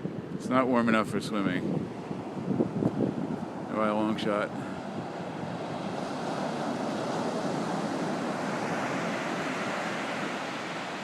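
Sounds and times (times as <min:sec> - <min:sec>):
ocean surf on a beach: 0:00.0 - 0:11.0.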